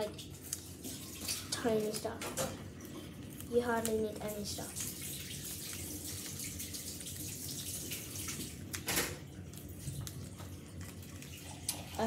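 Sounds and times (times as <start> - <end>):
loud paper crackle: 0.3 - 12.0.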